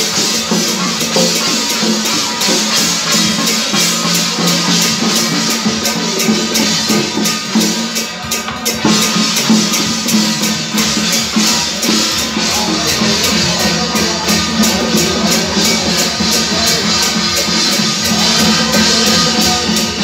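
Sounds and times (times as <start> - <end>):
hand drums and cymbals beating: 0.0 - 20.0.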